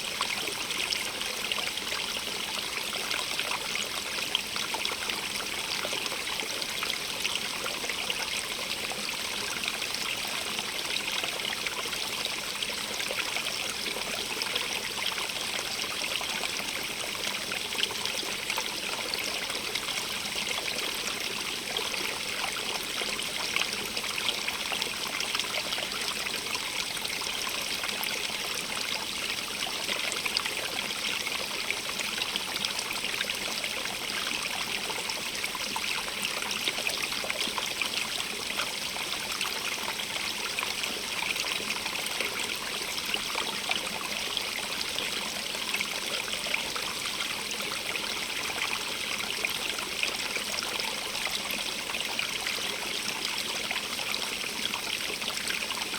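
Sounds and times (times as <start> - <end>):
stream of running water: 0.0 - 55.9.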